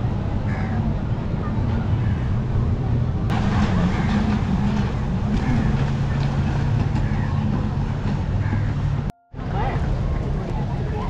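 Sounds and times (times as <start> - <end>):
crowd chatter: 0.0 - 11.0
jet-ski and speedboat engines: 0.0 - 11.0.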